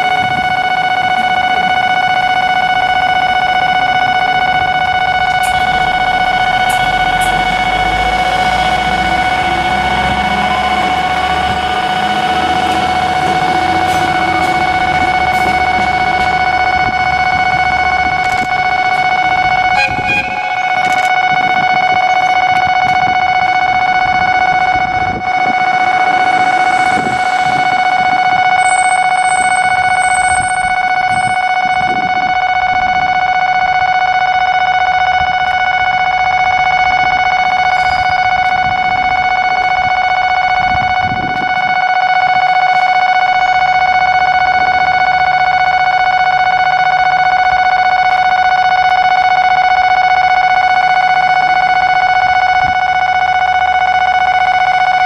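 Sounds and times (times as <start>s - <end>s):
level crossing alarm tone: 0.0s - 55.0s.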